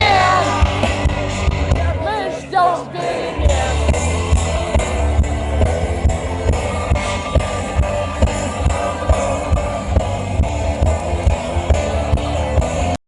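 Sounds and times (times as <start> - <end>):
drum kit steady beat: 0.0 - 2.7, 3.4 - 13.0
bass guitar: 0.0 - 13.0
electric guitar: 0.0 - 13.0.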